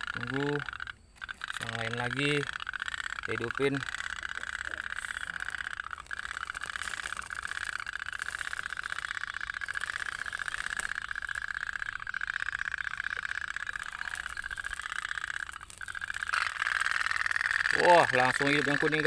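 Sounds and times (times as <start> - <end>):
toy steam boats popping: 0.0 - 19.0.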